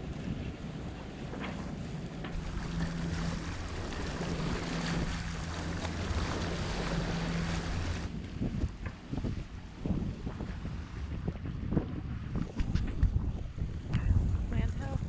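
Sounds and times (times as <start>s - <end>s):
water washing past boat: 0.0s - 12.3s
steady low hum: 0.2s - 15.0s
wind on microphone: 1.6s - 15.0s.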